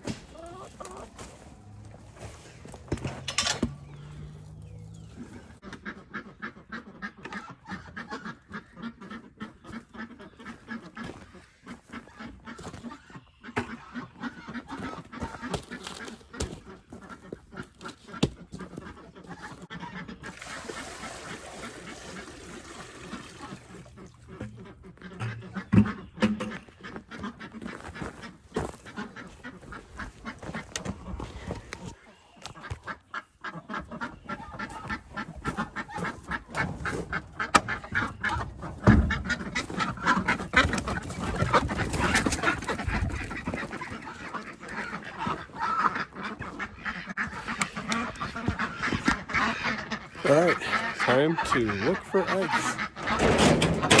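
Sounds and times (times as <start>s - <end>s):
ducks quacking: 0.0s - 54.0s.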